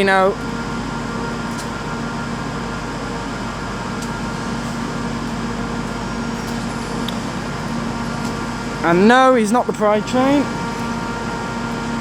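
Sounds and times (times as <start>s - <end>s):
station platform mechanical hum: 0.0s - 12.0s.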